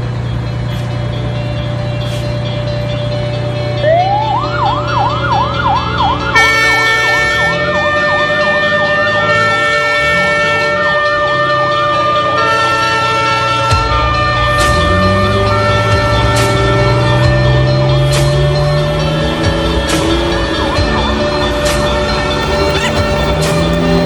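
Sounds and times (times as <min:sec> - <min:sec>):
music with held chords: 0:00.0 - 0:24.0
emergency vehicle siren: 0:03.6 - 0:24.0.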